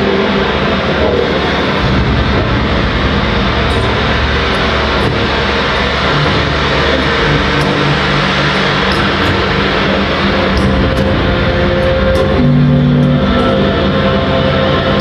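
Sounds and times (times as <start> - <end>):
loud electronic noise music: 0.0 - 15.0.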